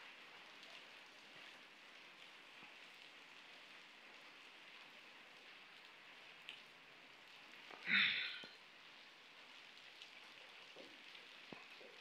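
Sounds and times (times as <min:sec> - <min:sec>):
rain on a wet street: 0:00.0 - 0:12.0.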